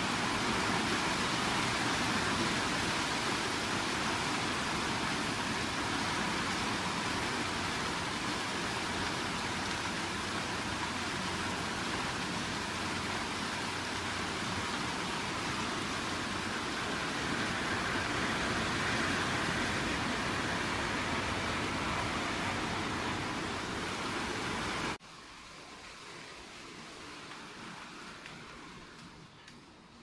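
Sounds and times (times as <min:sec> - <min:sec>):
steady rushing noise: 0:00.0 - 0:29.3.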